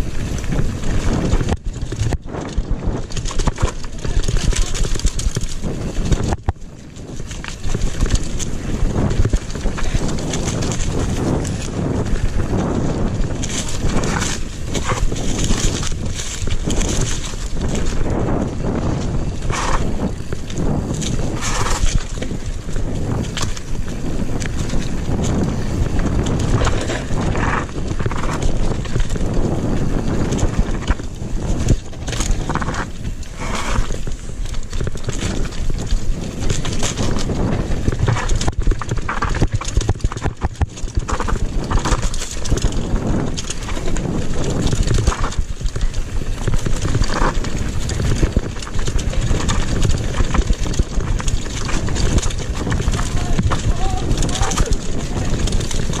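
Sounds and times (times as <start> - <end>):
mountain bike rattling over stony trail: 0.0 - 56.0
wind rumble on microphone: 0.0 - 56.0
tyres crunching on stones: 0.1 - 56.0.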